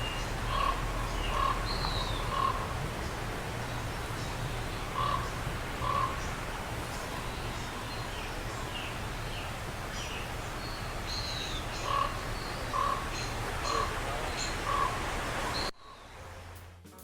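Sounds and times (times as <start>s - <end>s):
steady background hiss: 0.0s - 16.8s.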